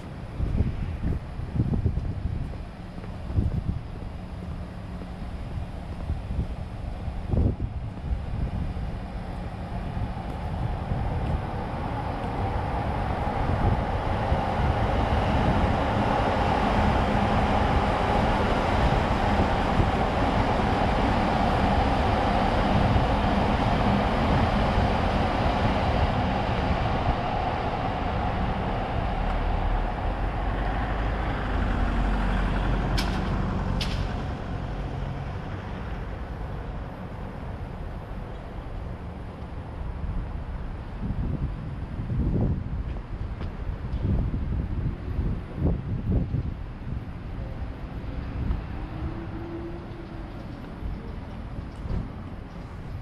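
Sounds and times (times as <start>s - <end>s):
road traffic: 0.0s - 53.0s
train rumbling past: 0.0s - 53.0s.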